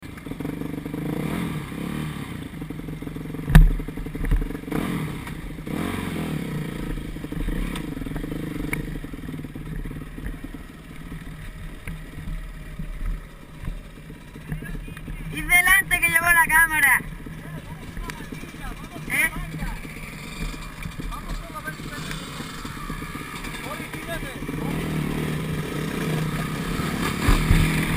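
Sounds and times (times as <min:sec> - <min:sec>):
motocross bike engine running: 0:00.0 - 0:27.9.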